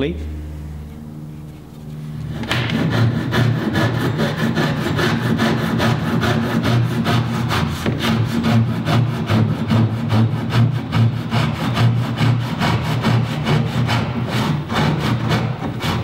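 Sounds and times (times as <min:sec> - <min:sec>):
handsaw cutting wood: 0:02.2 - 0:16.0.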